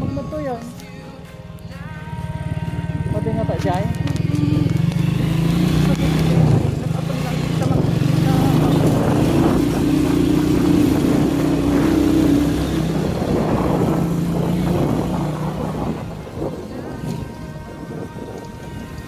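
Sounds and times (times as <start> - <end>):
road and wind noise: 0.0 - 19.0
motorcycle engine running: 1.8 - 19.0.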